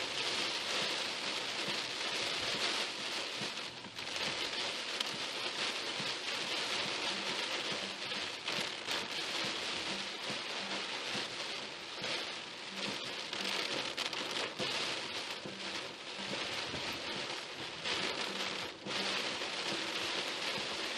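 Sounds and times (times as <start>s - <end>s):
heavy rain on a car: 0.0s - 20.9s.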